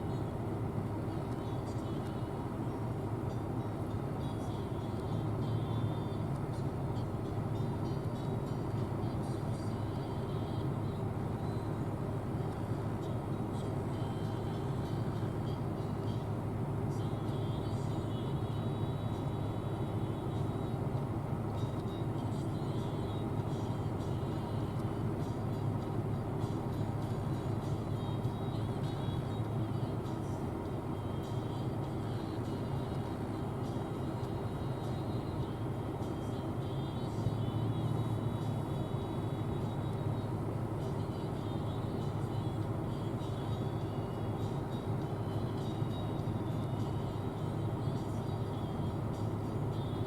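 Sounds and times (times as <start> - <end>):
combine harvester engine drone: 0.0 - 50.0.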